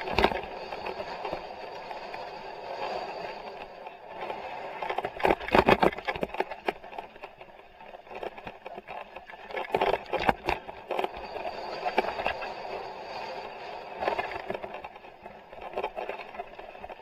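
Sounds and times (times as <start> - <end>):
wind and tyre noise: 0.0 - 17.0.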